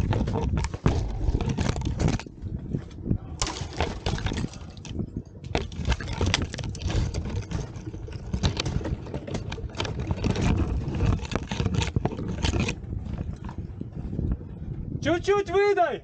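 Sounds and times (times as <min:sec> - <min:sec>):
climbing gear clicks and knocks: 0:00.0 - 0:15.0
low rumble on microphone: 0:00.0 - 0:15.4.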